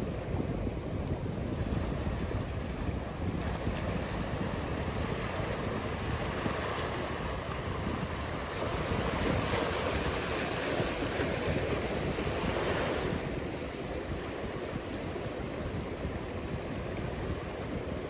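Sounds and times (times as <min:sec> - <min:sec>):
ocean surf breaking: 0:00.0 - 0:18.0
wind on microphone: 0:00.0 - 0:18.0.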